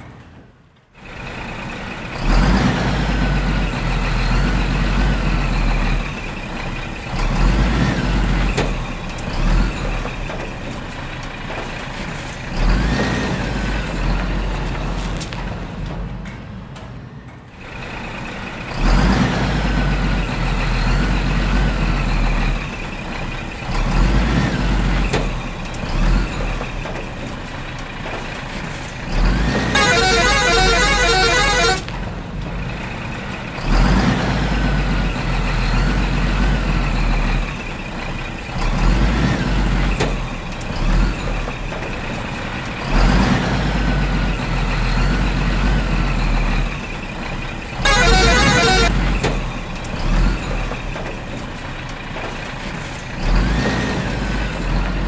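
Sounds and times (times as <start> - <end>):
truck engine rumble: 0.0 - 55.0.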